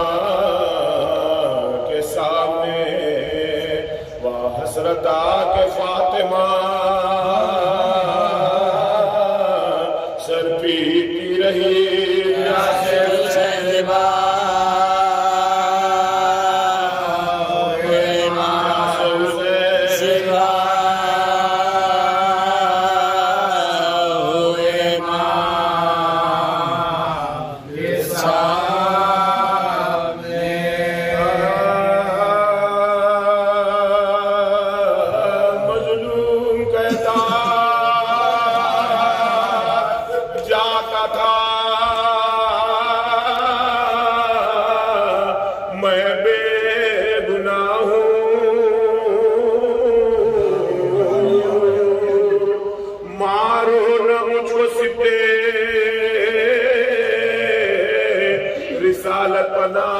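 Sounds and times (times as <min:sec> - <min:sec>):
man chanting: 0:00.0 - 0:59.9.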